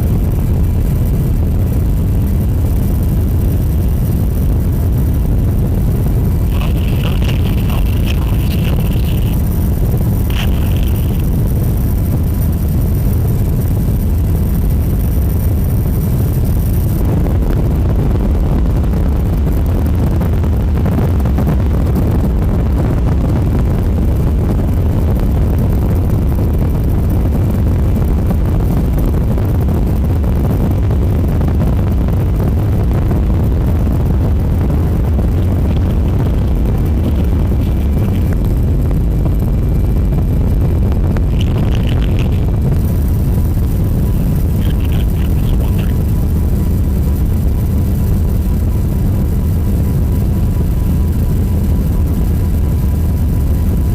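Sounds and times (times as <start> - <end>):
vehicle engine rumbling: 0.0 - 21.3, 22.6 - 53.9.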